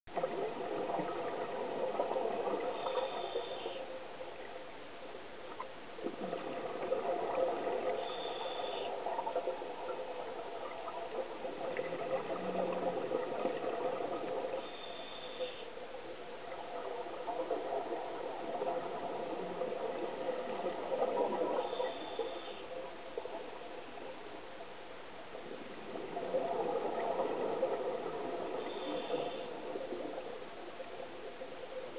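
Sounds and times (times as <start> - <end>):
exhaled bubbles gurgling underwater: 0.1 - 4.6, 5.4 - 31.9.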